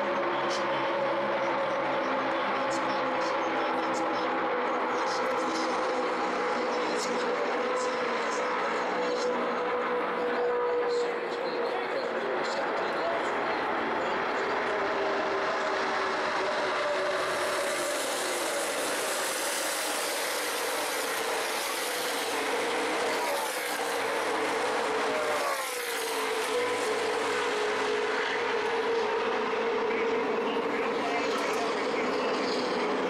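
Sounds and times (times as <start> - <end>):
race car engines at full throttle: 0.0 - 33.0.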